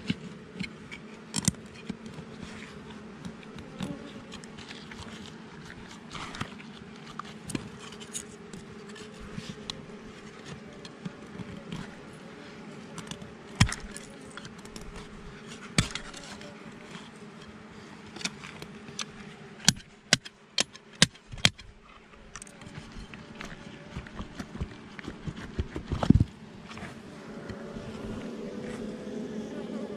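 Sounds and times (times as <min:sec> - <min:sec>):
bees humming: 0:00.3 - 0:20.0, 0:21.7 - 0:25.4, 0:26.0 - 0:29.9.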